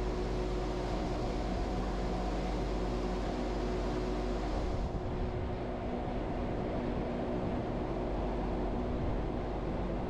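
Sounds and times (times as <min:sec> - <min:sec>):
electric train rumble and hum: 0:00.0 - 0:10.0.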